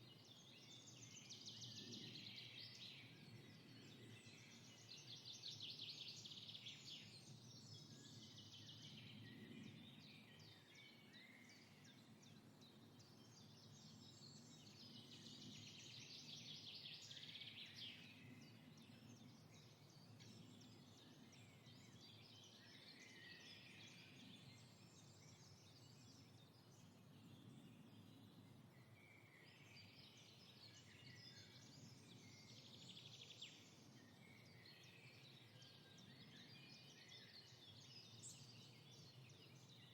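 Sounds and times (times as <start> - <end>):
low steady background noise: 0.0 - 39.9.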